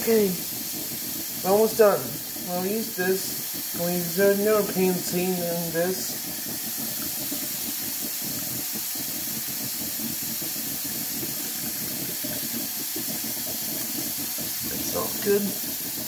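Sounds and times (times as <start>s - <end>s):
faucet running into metal sink: 0.0s - 8.2s, 10.7s - 16.0s.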